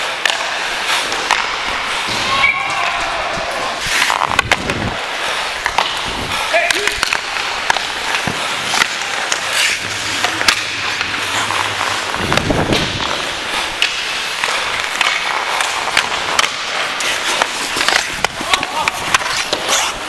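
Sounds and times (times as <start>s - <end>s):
hockey sticks and puck clicking: 0.0s - 20.0s
skate blades scraping ice: 0.0s - 20.0s.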